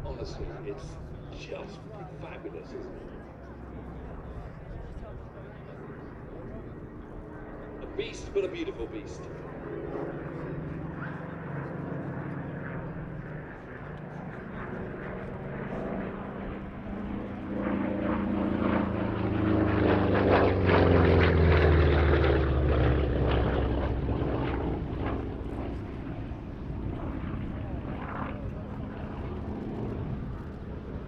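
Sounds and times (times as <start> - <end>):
propeller plane engine passing: 0.0 - 31.0.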